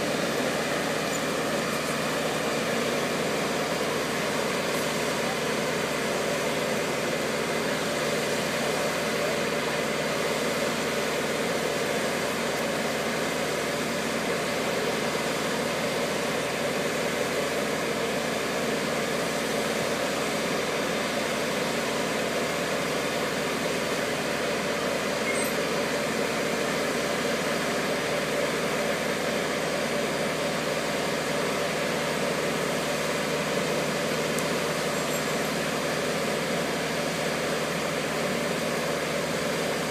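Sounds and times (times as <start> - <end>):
hoist engine running: 0.0 - 39.9.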